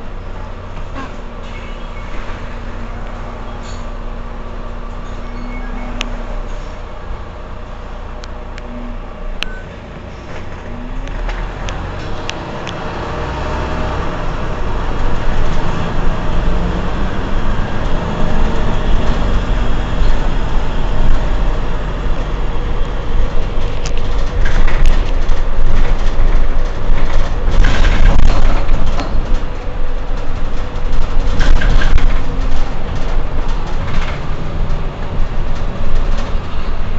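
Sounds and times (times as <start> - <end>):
bus engine rumbling: 0.0 - 36.9.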